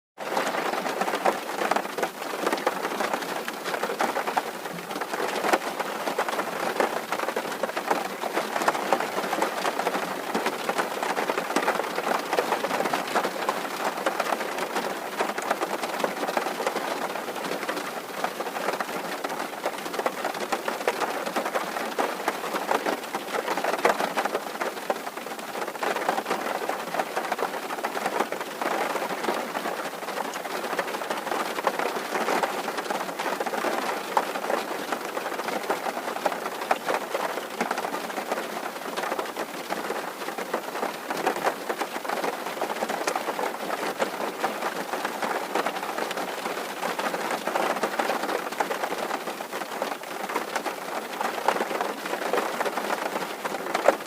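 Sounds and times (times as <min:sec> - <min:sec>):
rain on a tin roof: 0:00.2 - 0:54.0.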